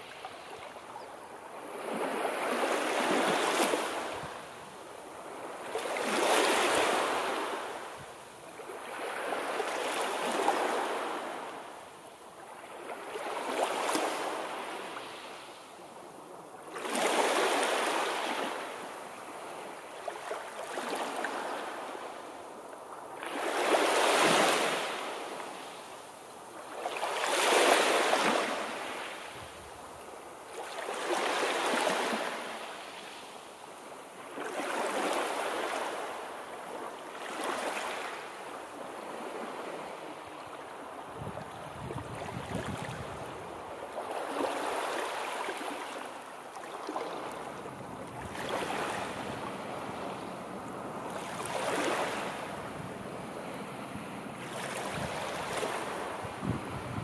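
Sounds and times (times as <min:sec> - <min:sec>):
sea waves breaking and washing: 0:00.0 - 0:57.0.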